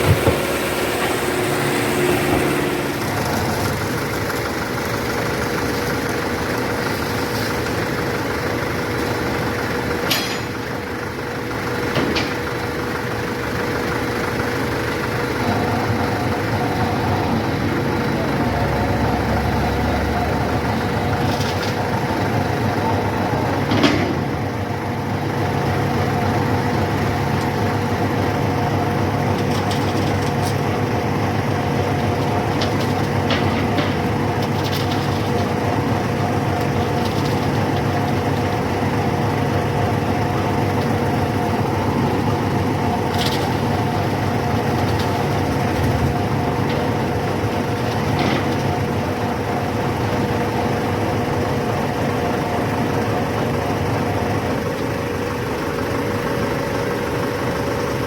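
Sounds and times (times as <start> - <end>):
diesel construction machinery running: 0.0 - 58.0.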